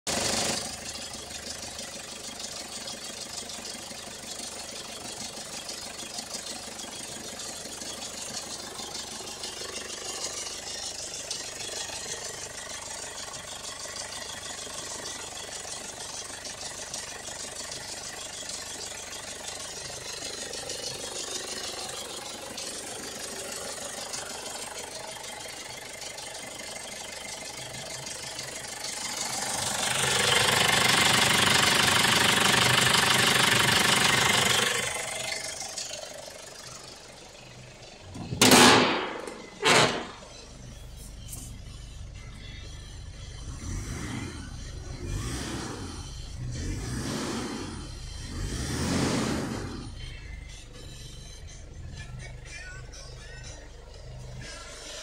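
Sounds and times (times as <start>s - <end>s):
diesel engine idling: 0.1s - 55.0s.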